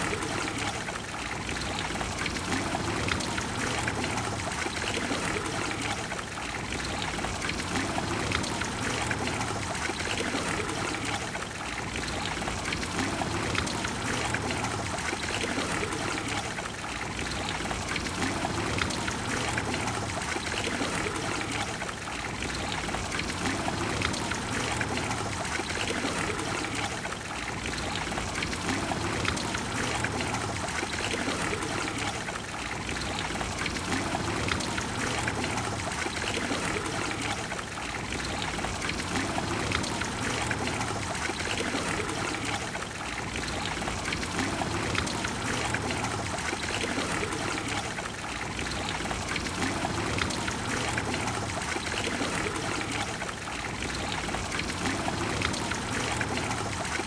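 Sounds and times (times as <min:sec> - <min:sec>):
fountain water rushing: 0:00.0 - 0:57.0.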